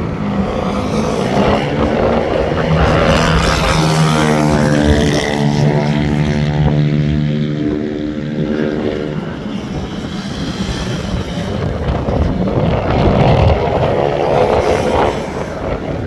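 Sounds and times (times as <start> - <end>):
racing scooter engines: 0.0 - 16.0.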